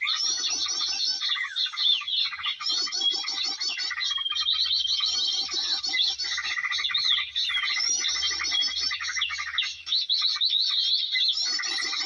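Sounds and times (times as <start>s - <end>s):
small birds chirping and twittering: 0.0s - 12.0s.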